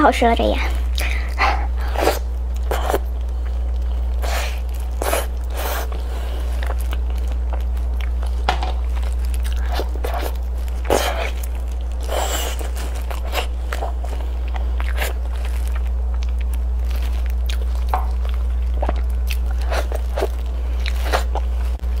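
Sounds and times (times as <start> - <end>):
steady low hum: 0.0 - 22.0
chewing and biting food: 0.8 - 22.0.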